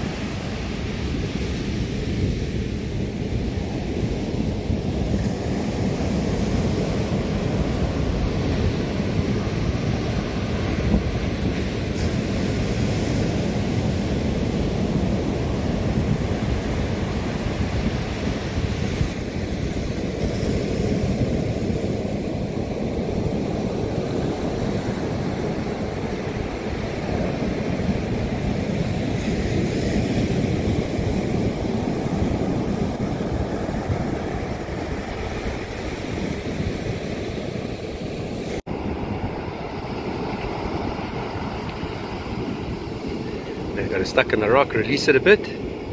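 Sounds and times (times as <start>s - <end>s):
ocean surf breaking: 0.0s - 45.9s
wind rumbling on microphone: 0.0s - 45.9s.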